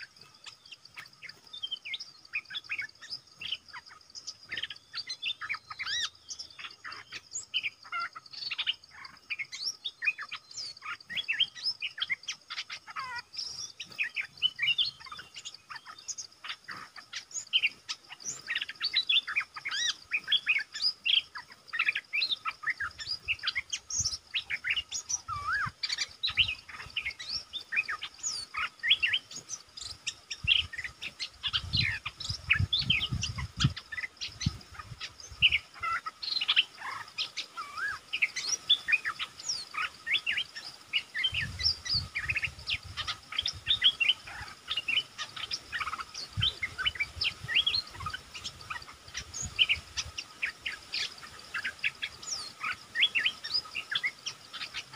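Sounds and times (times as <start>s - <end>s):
birds chirping and whistling: 0.0s - 54.9s.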